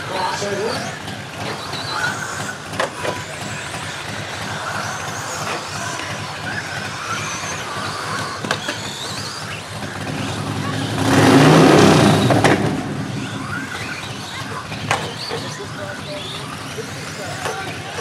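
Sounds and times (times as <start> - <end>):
rc truck motor whine: 0.0 - 18.0.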